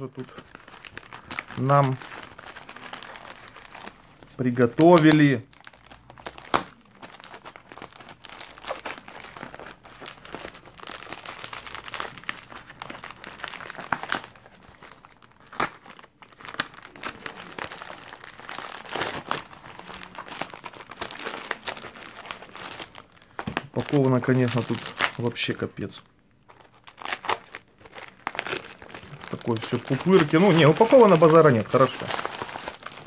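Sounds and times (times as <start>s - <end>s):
packaging tearing: 0.0s - 25.6s, 26.5s - 33.0s
plastic packaging crinkling: 0.0s - 33.0s.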